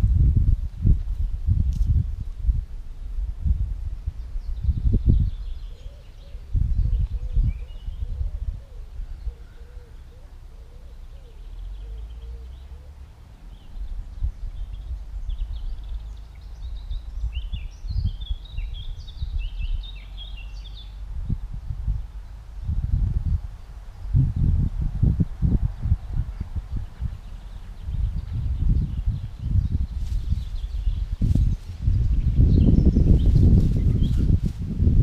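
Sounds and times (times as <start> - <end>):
wind buffeting microphone: 0.0 - 9.9, 13.3 - 35.0
small birds chirping: 4.0 - 34.6.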